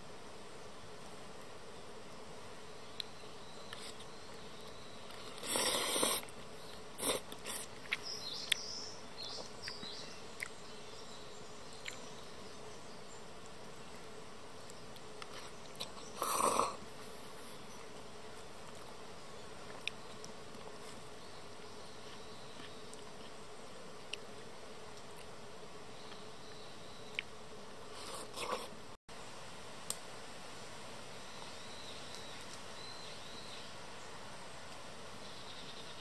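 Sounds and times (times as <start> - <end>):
insects buzzing: 0.0 - 36.0.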